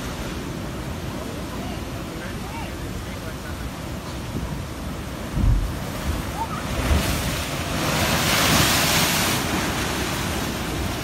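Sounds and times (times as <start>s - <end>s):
ocean surf rushing over rock: 0.0s - 11.0s.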